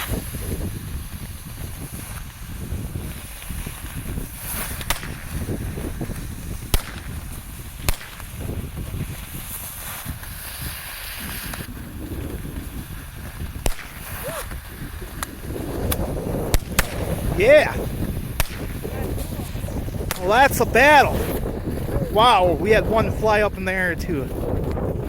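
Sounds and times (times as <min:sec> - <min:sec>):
fireworks hissing and crackling: 0:00.0 - 0:25.0
firework bangs: 0:03.2 - 0:25.0.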